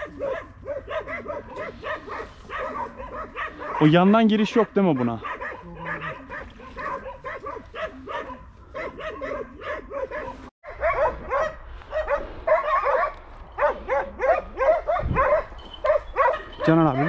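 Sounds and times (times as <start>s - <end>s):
dogs barking rapidly: 0.0s - 17.0s.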